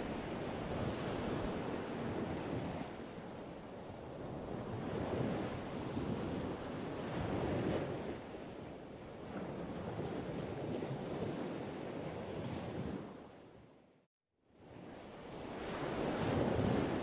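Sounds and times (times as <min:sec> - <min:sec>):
wind buffeting microphone: 0:00.0 - 0:13.6, 0:15.5 - 0:17.0
waves on open water: 0:00.0 - 0:17.0.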